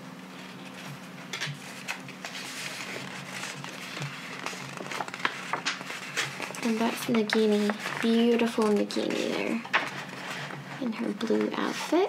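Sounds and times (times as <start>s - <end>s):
paper poster rustling: 0.3s - 12.0s.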